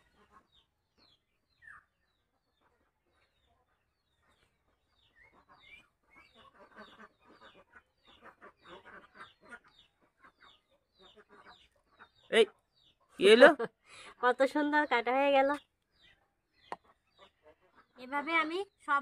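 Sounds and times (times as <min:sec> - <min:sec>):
chickens clucking: 0:00.0 - 0:13.3, 0:15.5 - 0:18.2.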